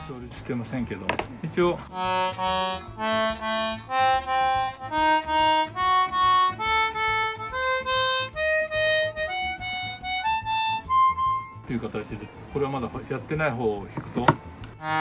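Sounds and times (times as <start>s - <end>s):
accordion reed single notes: 0.0s - 15.0s.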